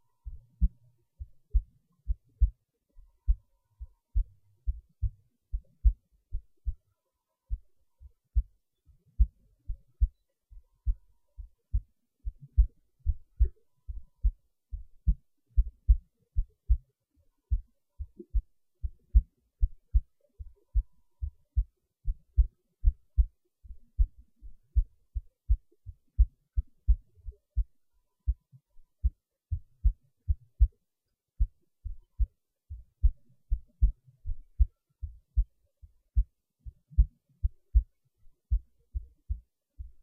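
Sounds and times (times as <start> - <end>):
heartbeat thumps: 0.2 - 6.8, 7.5 - 8.6, 9.2 - 16.8, 17.5 - 30.8, 31.4 - 40.0.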